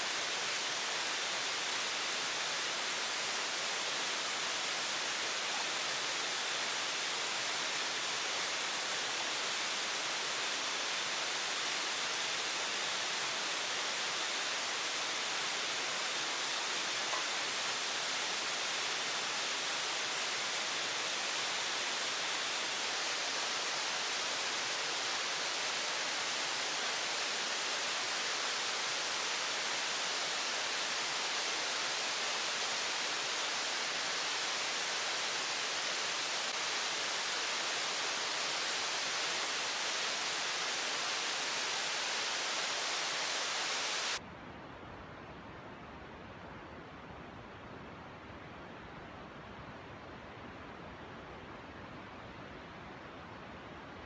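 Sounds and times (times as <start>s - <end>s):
water rushing: 0.0s - 44.2s
quiet hiss: 0.0s - 54.0s.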